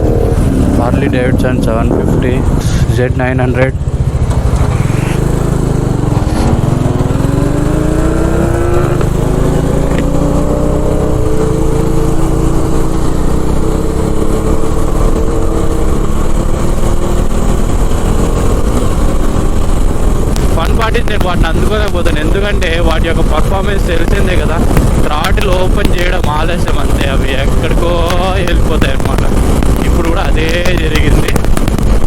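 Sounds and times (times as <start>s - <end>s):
motorcycle engine accelerating: 0.0s - 32.0s
wind rumble: 0.0s - 32.0s.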